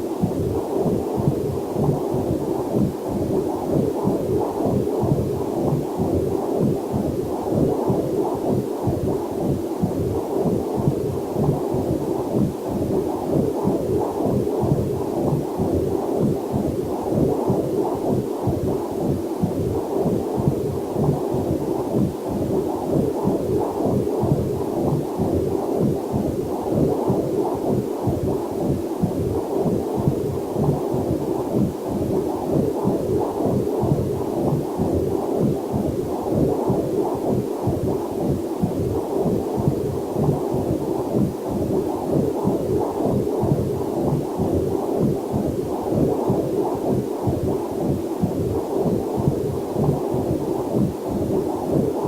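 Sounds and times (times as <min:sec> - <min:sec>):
heartbeat on doppler monitor: 0:00.0 - 0:52.0.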